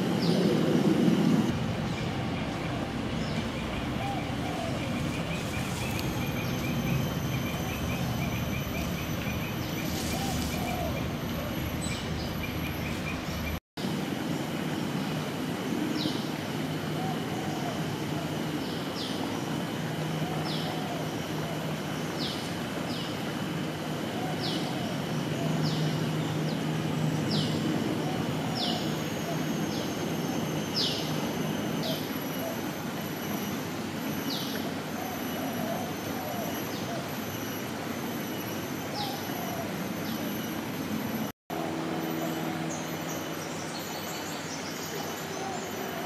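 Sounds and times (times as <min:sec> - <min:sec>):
outdoor background noise: 0:00.0 - 0:46.0.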